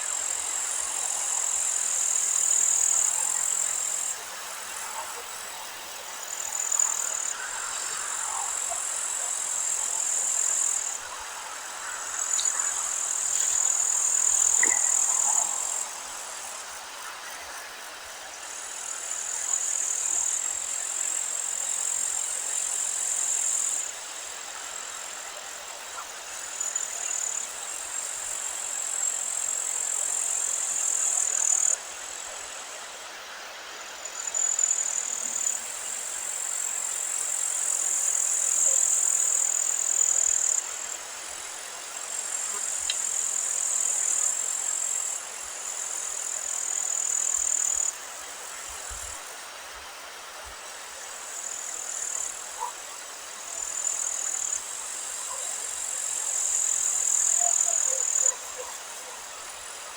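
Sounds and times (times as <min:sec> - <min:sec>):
light wind hiss: 0:00.0 - 0:57.6
insects trilling: 0:00.0 - 0:59.9.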